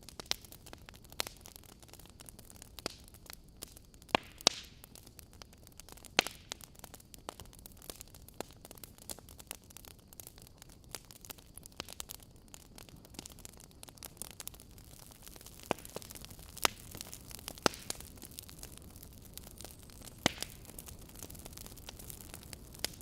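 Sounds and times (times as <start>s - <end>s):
logs crackling and popping in fire: 0.0s - 23.0s
soft fire hiss: 0.0s - 23.0s.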